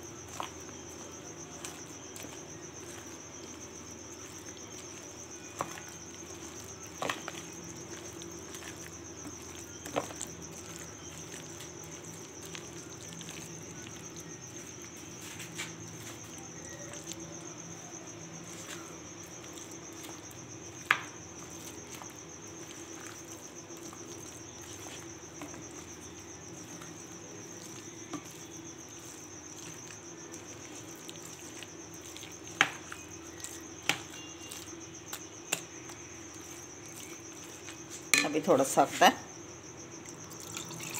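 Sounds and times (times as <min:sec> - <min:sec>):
spoon stirring thick batter: 0:00.0 - 0:40.9.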